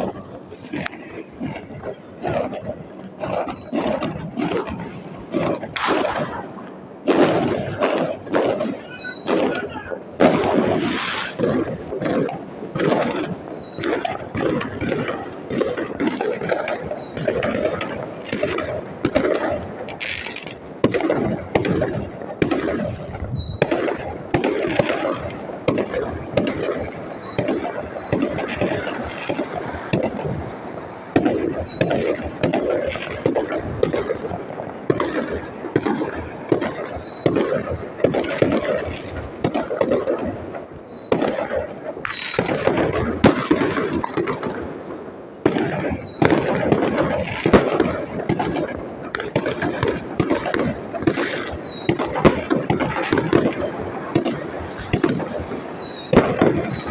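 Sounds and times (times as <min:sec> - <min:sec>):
fireworks bangs and crackles: 0:00.0 - 0:56.9
fireworks whistles falling in pitch: 0:00.6 - 0:18.0, 0:21.5 - 0:34.2, 0:34.9 - 0:56.9.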